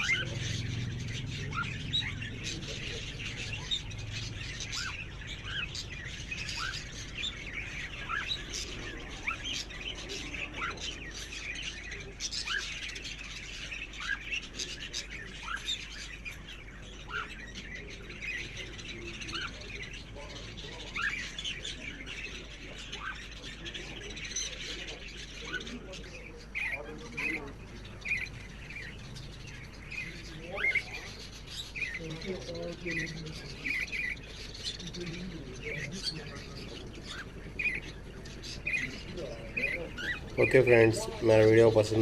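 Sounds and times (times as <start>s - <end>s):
cockatiels chirping: 0.0s - 42.0s.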